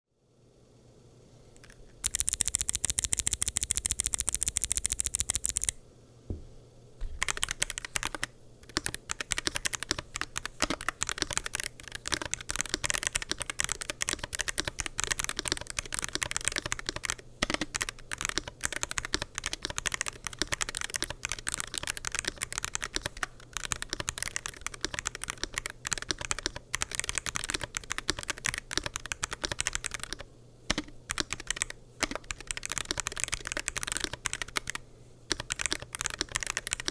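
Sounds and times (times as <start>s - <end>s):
keyboard typing clicks: 1.6s - 5.8s, 7.1s - 36.9s.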